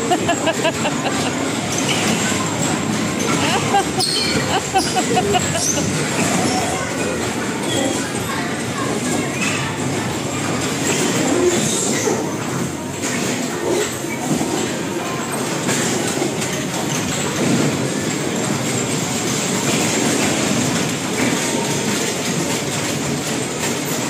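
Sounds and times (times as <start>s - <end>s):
bumper cars rumbling clatter: 0.0s - 24.0s.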